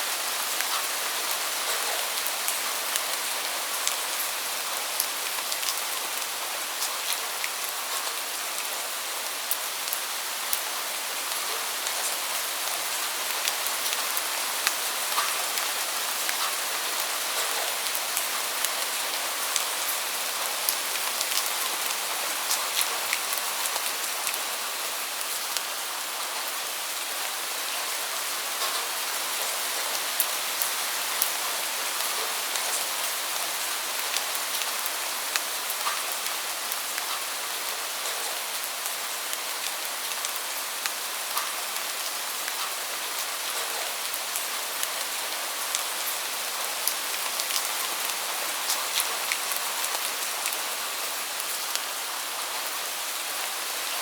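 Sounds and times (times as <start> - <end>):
steady rain hiss: 0.0 - 54.0
raindrops ticking close by: 0.2 - 26.5, 27.2 - 52.9.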